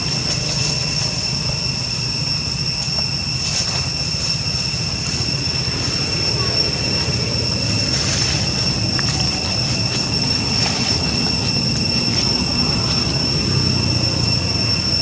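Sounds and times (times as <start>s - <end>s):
cicada drone: 0.0s - 15.0s
low rumble: 0.0s - 15.0s.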